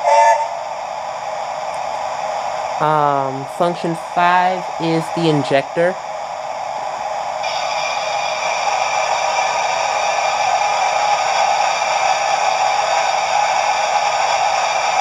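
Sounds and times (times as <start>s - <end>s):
idling engine background hiss: 0.6s - 15.0s
hiss of steam and water: 1.4s - 15.0s.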